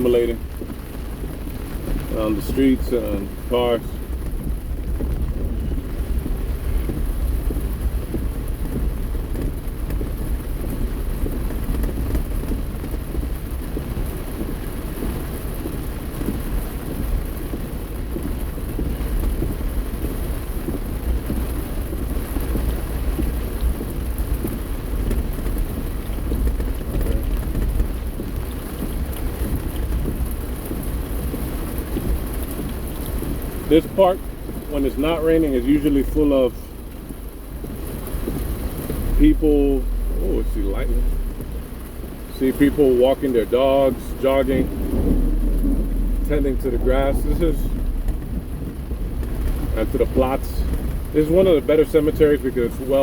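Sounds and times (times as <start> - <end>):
deep rumble: 0.0 - 53.0
rain downpour: 0.0 - 53.0.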